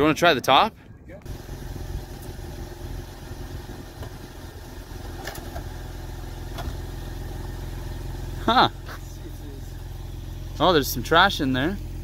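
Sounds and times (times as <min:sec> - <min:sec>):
car engine idling: 0:00.7 - 0:12.0.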